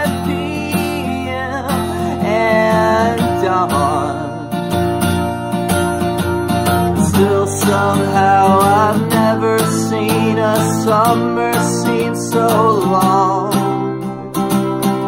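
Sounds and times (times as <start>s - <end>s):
person singing wordless melody: 0.0s - 4.9s, 6.7s - 14.3s
acoustic guitar strumming: 0.0s - 15.0s.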